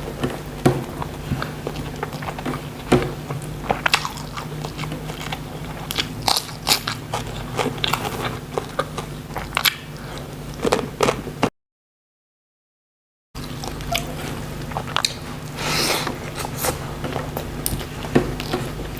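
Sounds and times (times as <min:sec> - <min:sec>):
person crunching and chewing food: 0:00.0 - 0:11.5, 0:13.4 - 0:18.9.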